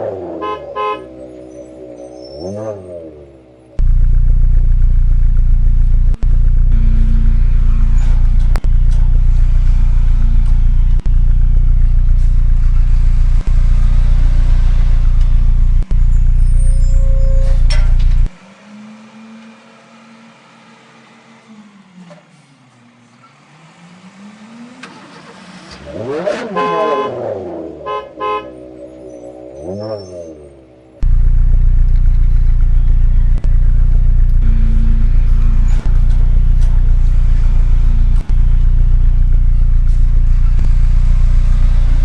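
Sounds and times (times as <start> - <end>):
vehicle engine revving: 0.0 - 21.9, 23.1 - 42.0.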